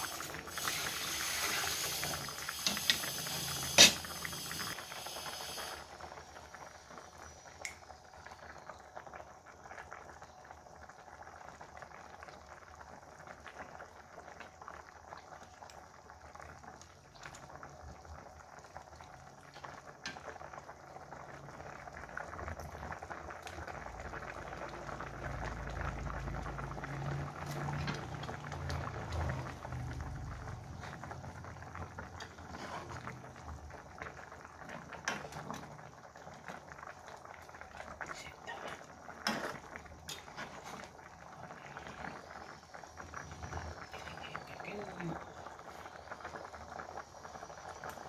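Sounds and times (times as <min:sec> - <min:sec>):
low rumble of boiling: 0:00.0 - 0:48.0
sauce bubbling in a pan: 0:00.0 - 0:48.0.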